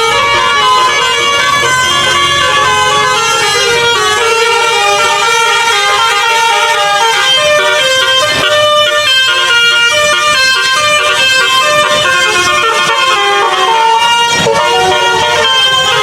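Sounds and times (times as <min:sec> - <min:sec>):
musical bus horn playing a tune: 0:00.0 - 0:16.0.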